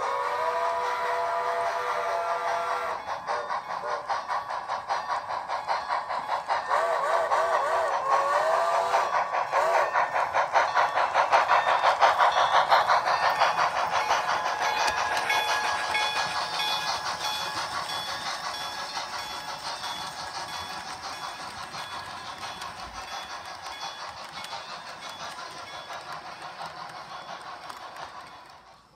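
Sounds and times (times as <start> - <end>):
model train wheels clattering: 0.0 - 28.9.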